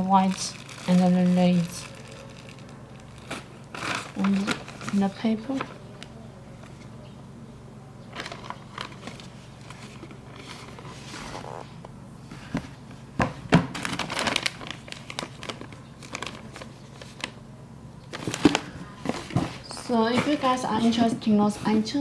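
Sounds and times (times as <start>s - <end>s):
paper crinkling and rustling: 0.0s - 6.9s, 8.1s - 11.8s, 12.4s - 17.4s, 18.1s - 22.0s.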